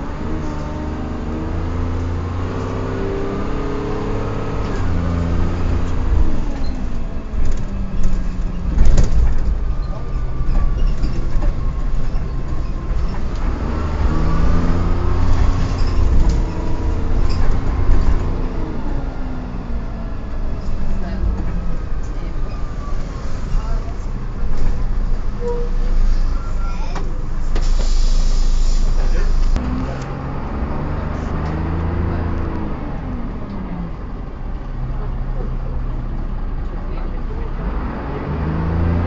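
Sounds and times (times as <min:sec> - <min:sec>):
bus engine running: 0:00.0 - 0:39.0.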